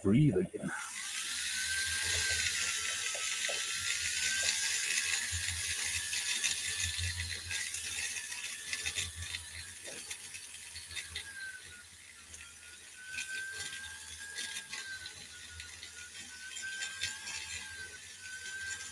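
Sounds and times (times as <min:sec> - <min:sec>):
rotary tool whine: 0:00.6 - 0:18.9
abrasive wheel rasping on metal: 0:00.7 - 0:18.9.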